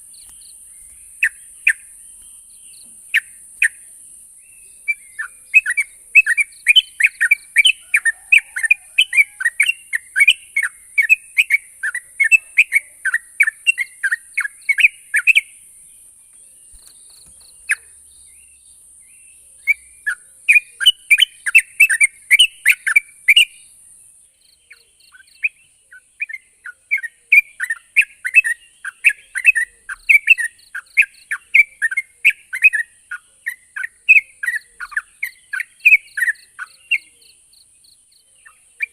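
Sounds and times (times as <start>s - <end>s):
bulbul singing chirping runs: 0.0s - 38.9s.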